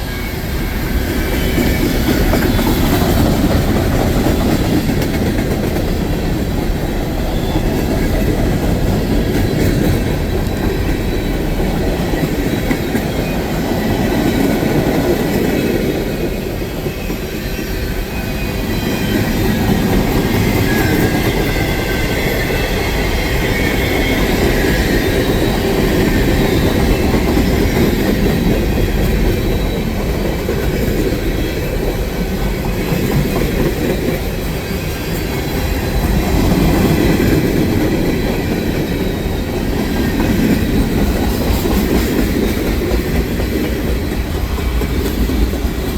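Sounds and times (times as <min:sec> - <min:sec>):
train wheels clattering: 0:00.0 - 0:45.9.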